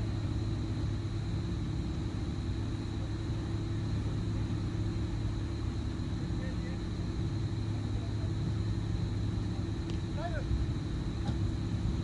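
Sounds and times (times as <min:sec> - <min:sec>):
faint high whine: 0:00.0 - 0:12.0
low rumble and hiss: 0:00.0 - 0:12.0.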